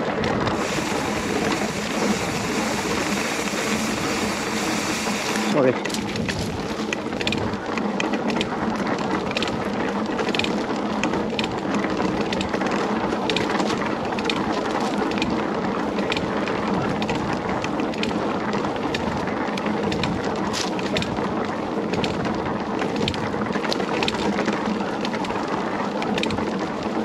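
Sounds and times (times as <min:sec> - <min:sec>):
bike clicks and rattles: 0:00.0 - 0:27.0
bike tyres on gravel: 0:00.0 - 0:27.0.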